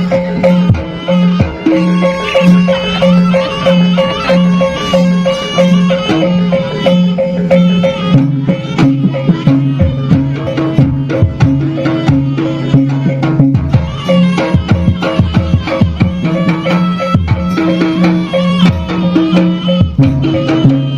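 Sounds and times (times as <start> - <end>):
drums: 0.0 - 20.9
wavering lead melody: 0.0 - 20.9.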